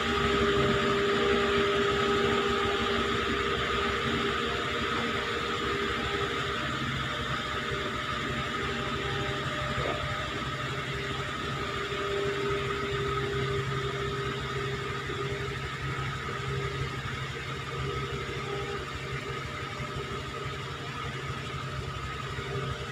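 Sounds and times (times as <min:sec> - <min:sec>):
diesel engine running at low revs: 0:00.0 - 0:22.9.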